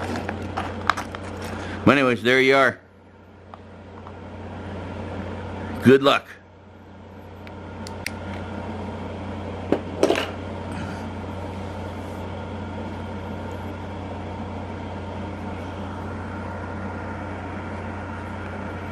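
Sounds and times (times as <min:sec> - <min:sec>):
low machine hum: 0:00.0 - 0:18.9.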